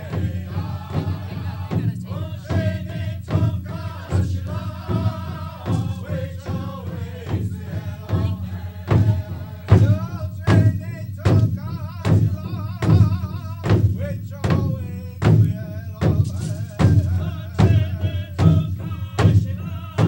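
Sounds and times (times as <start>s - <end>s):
steady drum beat: 0.0s - 20.0s
voices chanting together: 0.0s - 20.0s.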